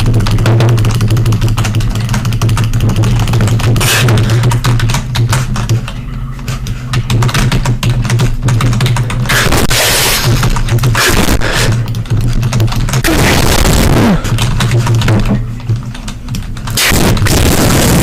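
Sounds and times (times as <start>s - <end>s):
distorted keyboard typing: 0.0s - 18.0s
steady low hum: 0.0s - 18.0s.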